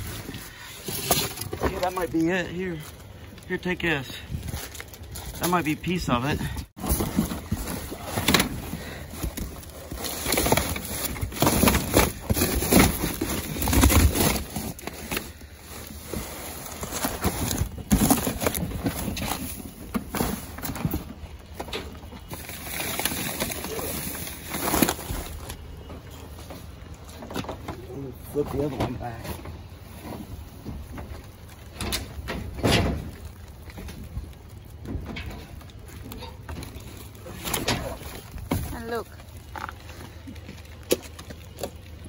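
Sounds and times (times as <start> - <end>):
cardboard boxes being pushed: 0.0 - 42.0
plastic garbage bags rustling: 0.0 - 42.0.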